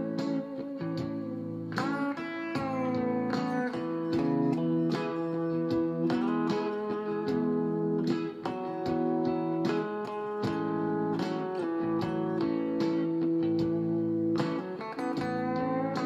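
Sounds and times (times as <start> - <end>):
electric guitar notes with bends: 0.0 - 16.0.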